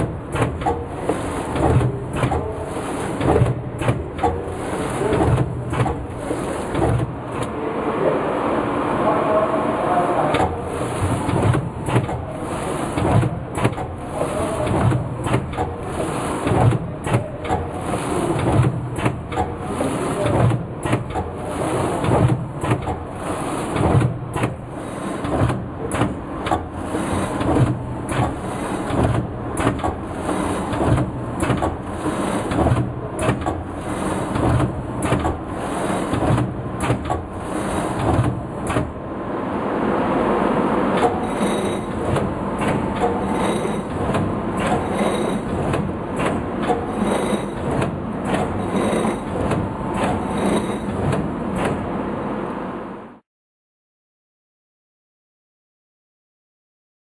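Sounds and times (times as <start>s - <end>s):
packaging machine running: 0.0s - 7.5s, 10.2s - 39.0s, 40.9s - 52.0s
machine clunks and clicks: 0.0s - 7.6s, 10.3s - 39.0s, 40.9s - 52.0s.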